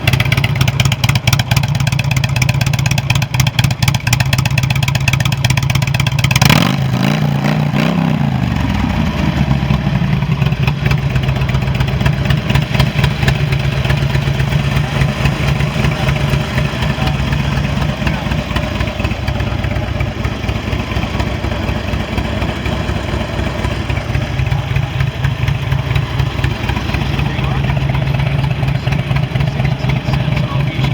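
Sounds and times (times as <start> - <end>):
motorcycle engine revving and idling: 0.0 - 30.9.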